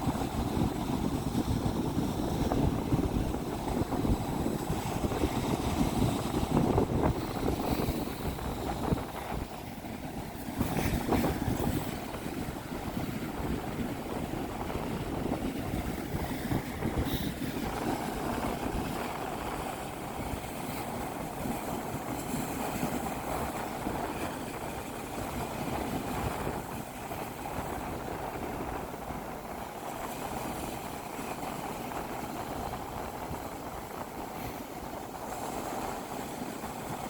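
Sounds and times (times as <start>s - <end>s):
surf washing onto beach: 0.0s - 37.0s
wind buffeting microphone: 0.0s - 37.0s.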